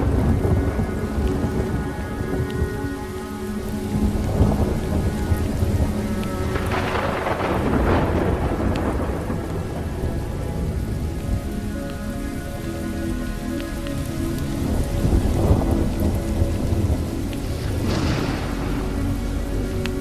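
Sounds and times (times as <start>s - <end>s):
rolling thunder: 0.0s - 12.7s, 13.7s - 20.0s
slow reverberant music: 0.0s - 20.0s
steady rain: 0.0s - 20.0s.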